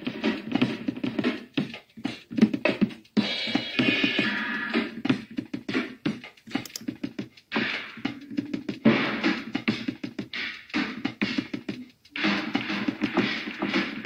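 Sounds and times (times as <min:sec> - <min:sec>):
glitchy drum samples: 0:00.0 - 0:14.0.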